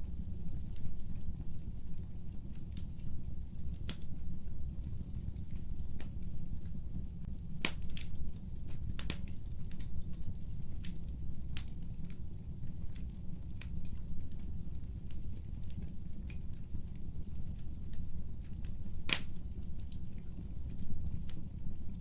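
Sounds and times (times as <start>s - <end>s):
flames rumbling: 0.0s - 22.0s
fire pops and snaps: 0.1s - 22.0s.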